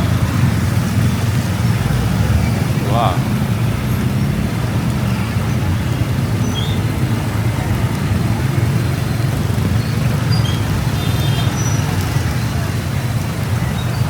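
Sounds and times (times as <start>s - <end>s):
motorbike engine running: 0.0s - 14.0s
road and wind noise: 0.0s - 14.0s.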